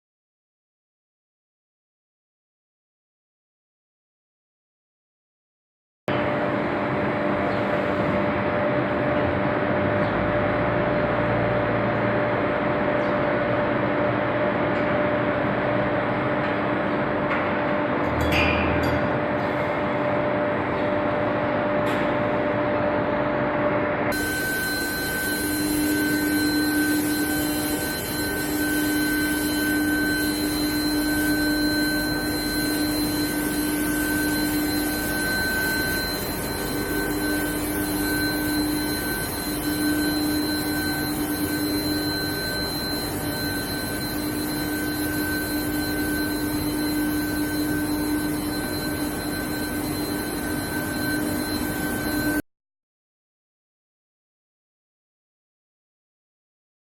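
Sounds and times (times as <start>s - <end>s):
machine electrical whine: 6.1s - 52.4s.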